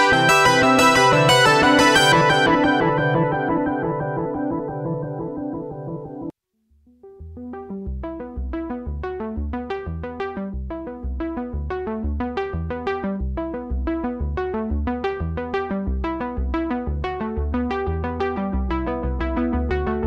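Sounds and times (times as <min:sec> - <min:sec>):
plucked synthesizer notes: 0:00.0 - 0:06.3, 0:07.0 - 0:20.0.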